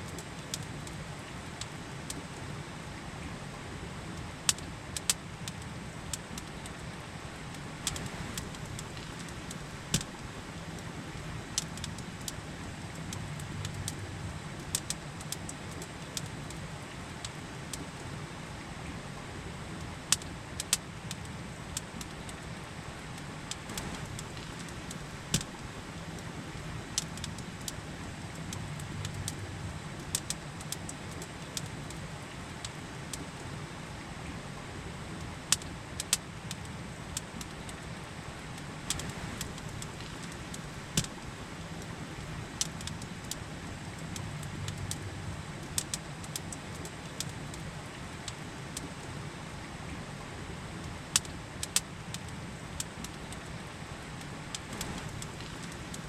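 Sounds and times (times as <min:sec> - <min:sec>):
campfire crackling and popping: 0:00.0 - 0:02.4, 0:04.1 - 0:18.1, 0:19.7 - 0:33.5, 0:35.1 - 0:50.0, 0:50.7 - 0:56.0.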